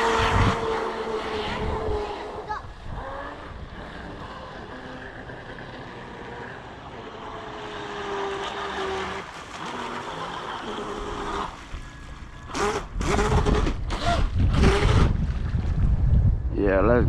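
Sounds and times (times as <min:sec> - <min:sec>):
electric boat motor whine: 0:00.0 - 0:15.2
boat splashing: 0:00.0 - 0:16.0
water noise: 0:00.0 - 0:17.0.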